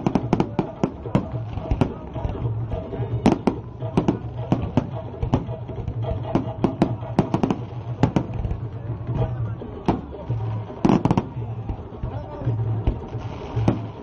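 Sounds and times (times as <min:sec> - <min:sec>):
fireworks banging: 0:00.0 - 0:14.0
voices: 0:00.0 - 0:14.0.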